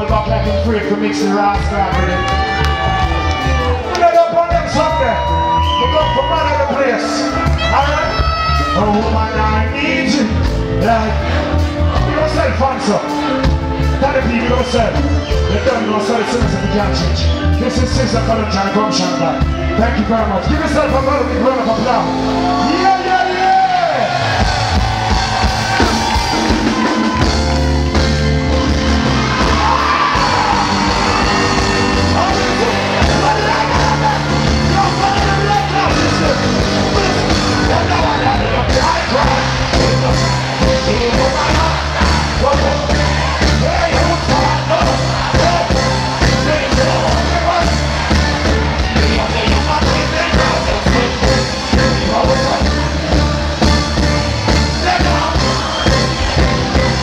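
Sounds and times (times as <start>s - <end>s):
crowd shouting and whooping: 0.0s - 57.0s
heavy bass line: 0.0s - 57.0s
reggae band through loudspeakers: 0.0s - 57.0s.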